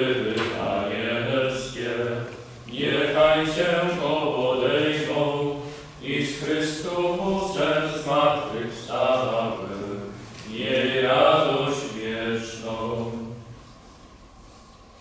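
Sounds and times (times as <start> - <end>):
low voices singing slowly: 0.0 - 15.0.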